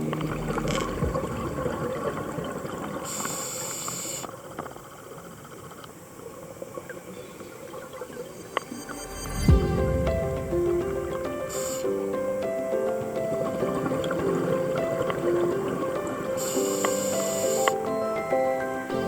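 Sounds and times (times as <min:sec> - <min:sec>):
underwater crackling hiss: 0:00.0 - 0:08.7, 0:10.6 - 0:18.0.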